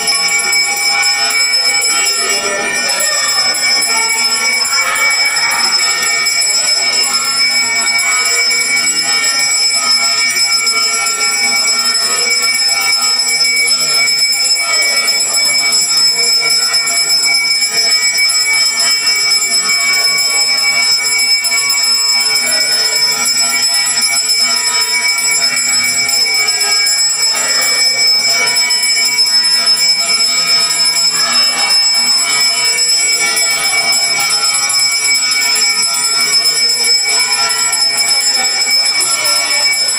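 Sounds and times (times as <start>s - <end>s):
hand bell ringing: 0.0s - 39.9s.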